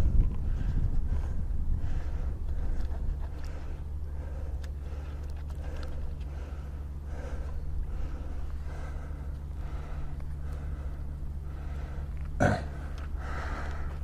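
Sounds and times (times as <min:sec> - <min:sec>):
steady low rumble: 0:00.0 - 0:14.0
man breathing: 0:00.1 - 0:14.0.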